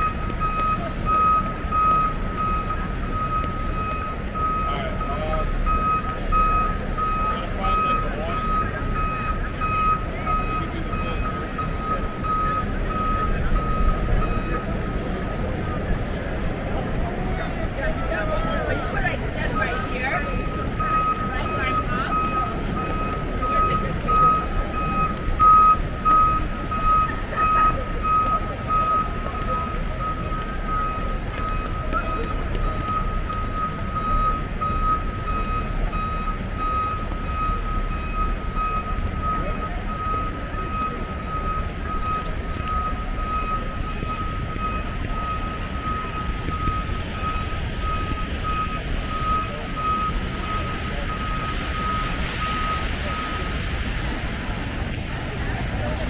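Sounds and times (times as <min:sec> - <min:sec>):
low street rumble: 0:00.0 - 0:56.0
vehicle backup alarm beeping: 0:00.0 - 0:56.0.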